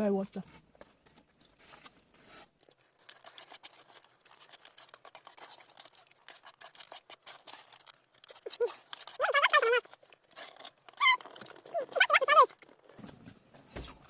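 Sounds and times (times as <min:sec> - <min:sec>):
eating clicks and scrapes: 0:00.3 - 0:14.0.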